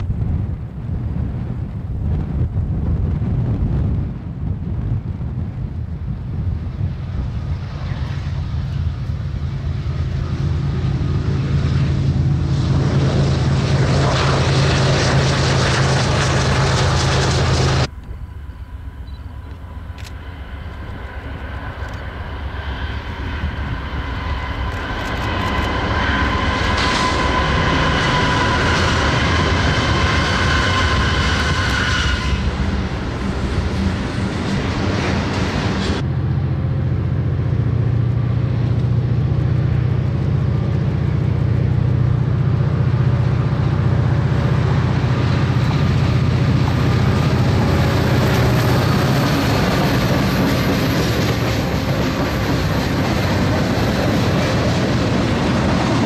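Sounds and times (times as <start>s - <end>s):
locomotive engines droning: 0.0s - 56.0s
train rumble: 0.0s - 56.0s
high whine: 6.2s - 56.0s.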